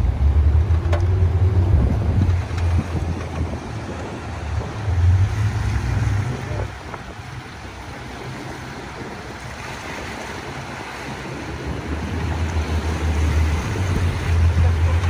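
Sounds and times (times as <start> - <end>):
low engine drone: 0.0 - 15.0
wind and water rushing past boat: 0.0 - 15.0.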